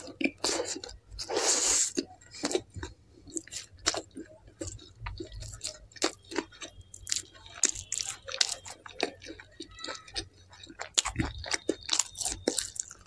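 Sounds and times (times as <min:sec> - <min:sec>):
wet chewing and lip smacking: 0:00.0 - 0:13.0.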